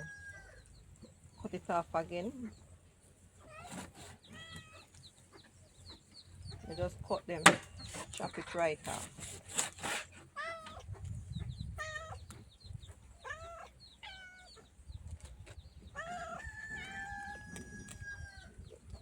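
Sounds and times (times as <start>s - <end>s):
chickens calling: 0.0s - 19.0s.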